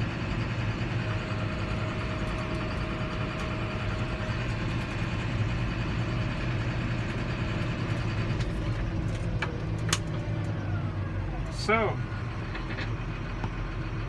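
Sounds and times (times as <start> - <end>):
tractor diesel engine hum: 0.0 - 14.0.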